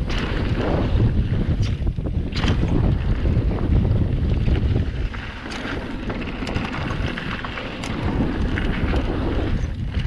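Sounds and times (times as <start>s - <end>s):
wind buffeting microphone: 0.0s - 10.0s
bike clicks and rattles: 1.5s - 10.0s.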